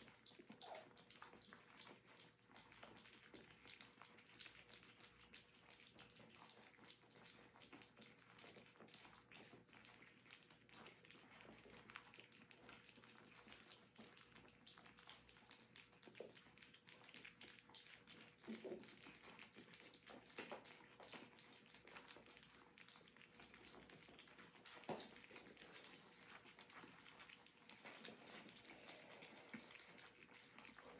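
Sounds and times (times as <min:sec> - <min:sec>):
puppies licking and lapping food: 0:00.0 - 0:30.9.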